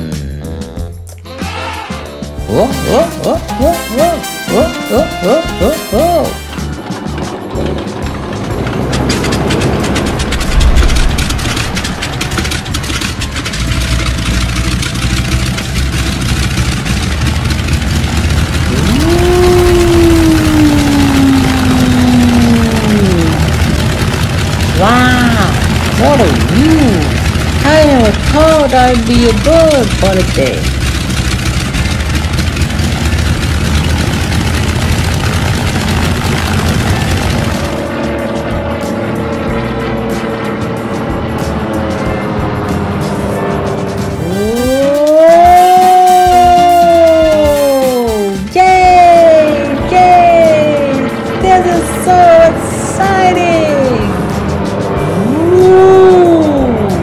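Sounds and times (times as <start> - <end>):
background music: 0.0 - 16.1, 18.7 - 31.1, 37.5 - 57.0
propeller aircraft engines rumbling: 0.0 - 57.0
loud droning tone: 2.4 - 57.0.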